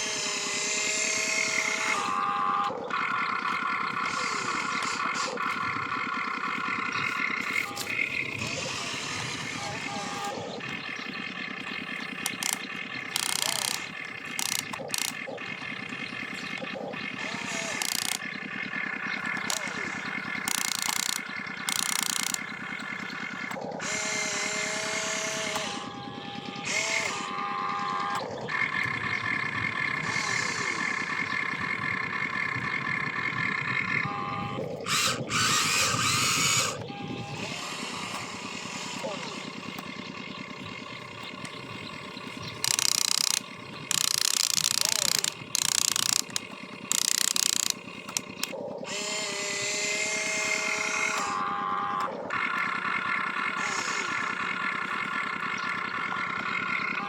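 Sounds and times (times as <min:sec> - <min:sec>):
geared electric motors whirring: 0:00.0 - 0:57.0.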